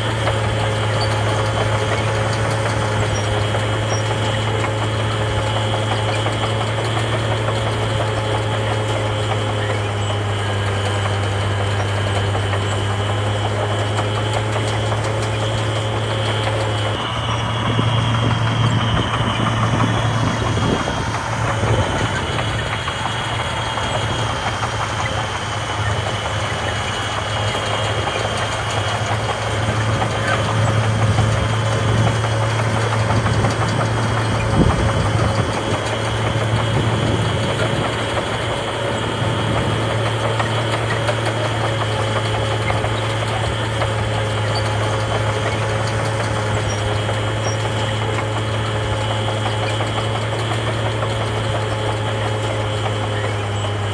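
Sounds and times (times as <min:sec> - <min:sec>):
heavy diesel engine droning: 0:00.0 - 0:53.9.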